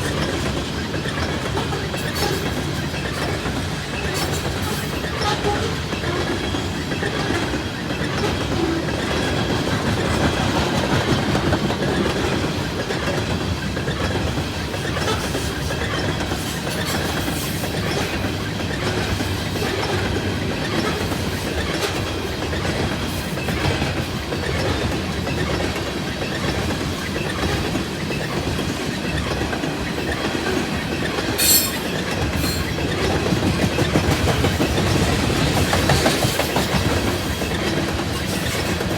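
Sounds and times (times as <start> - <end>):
wheels clacking over rail joints: 0.0 - 38.9.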